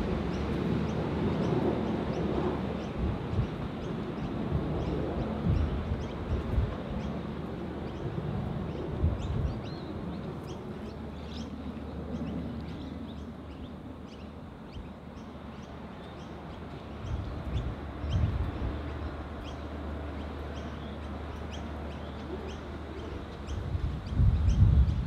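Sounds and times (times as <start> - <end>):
wind gusts on microphone: 0.0 - 15.7, 16.4 - 25.0
small birds chirping: 0.2 - 25.0.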